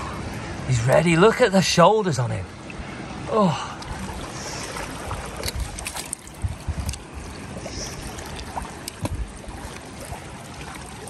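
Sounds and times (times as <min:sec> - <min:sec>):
sea water sloshing: 0:00.0 - 0:11.0.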